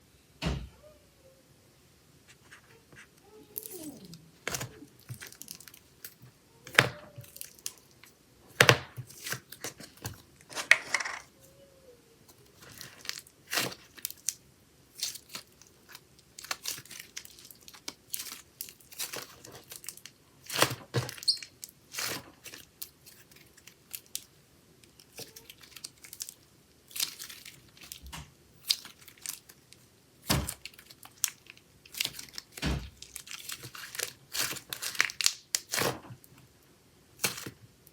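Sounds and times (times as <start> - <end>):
slime squishing with wet crackles: 3.0 - 10.6, 12.2 - 37.9.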